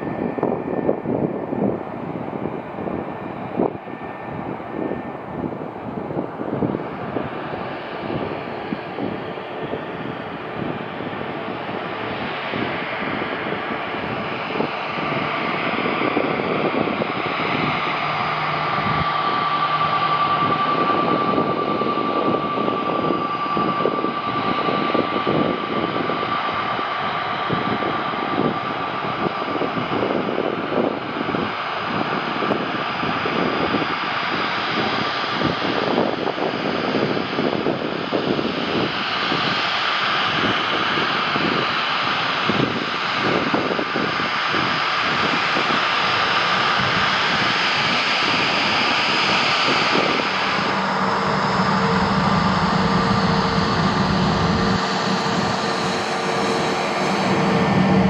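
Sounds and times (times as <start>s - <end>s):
jet engines rushing: 0.0s - 58.0s
steady engine whine: 0.0s - 58.0s.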